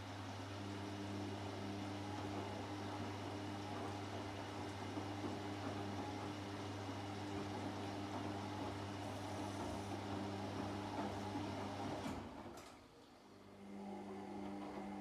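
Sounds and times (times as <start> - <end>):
washing machine running: 0.1 - 15.0.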